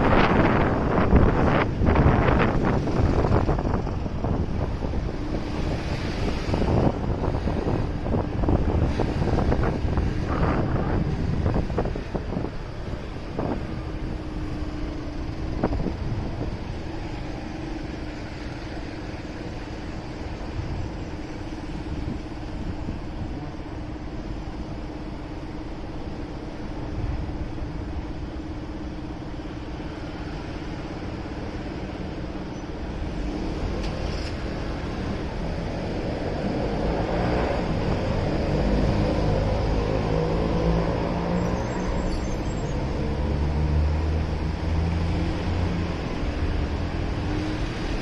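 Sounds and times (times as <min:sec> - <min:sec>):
road and wind noise: 0:00.0 - 0:48.0.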